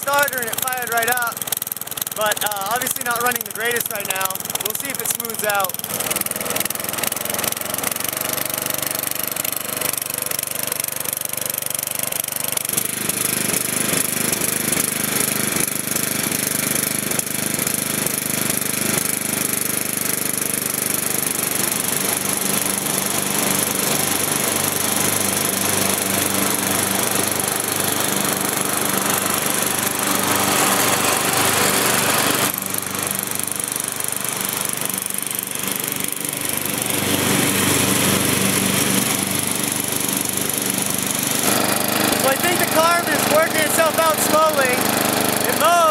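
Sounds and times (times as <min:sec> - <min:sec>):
riding mower engine running: 0:00.0 - 0:45.9.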